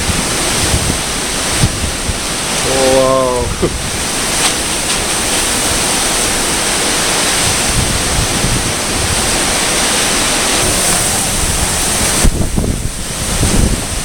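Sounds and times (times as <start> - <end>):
strong wind rushing: 0.0 - 14.0
wind buffeting microphone: 0.0 - 14.0.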